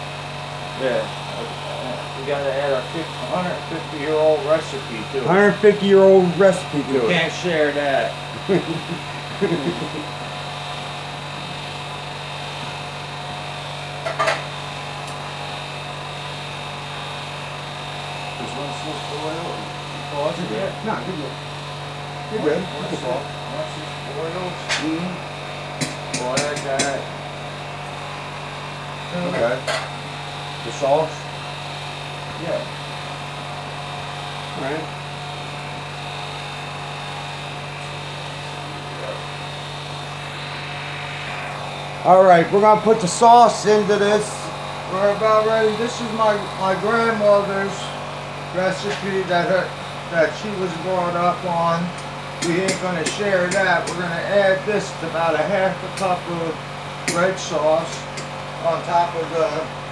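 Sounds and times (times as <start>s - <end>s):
range hood fan humming: 0.0s - 59.9s.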